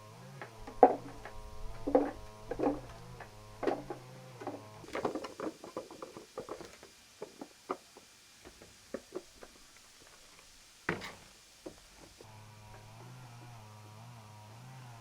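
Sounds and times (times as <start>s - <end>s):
light irregular knocks and taps: 0.6s - 12.9s.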